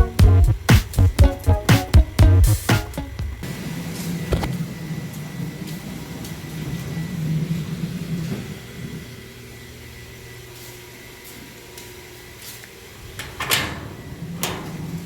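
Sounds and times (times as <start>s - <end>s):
washing machine motor hum: 0.0s - 10.5s, 12.8s - 15.0s.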